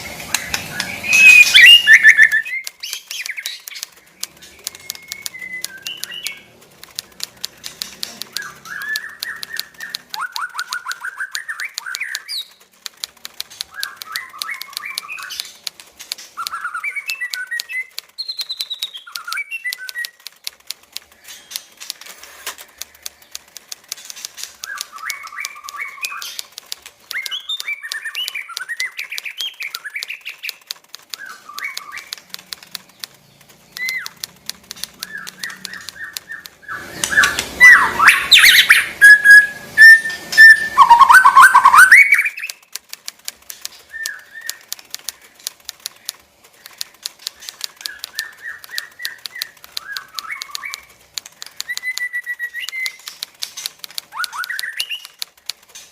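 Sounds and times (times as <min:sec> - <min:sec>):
bird chattering song: 0:00.0 - 0:55.9
bird fluttering in cage: 0:00.0 - 0:55.9.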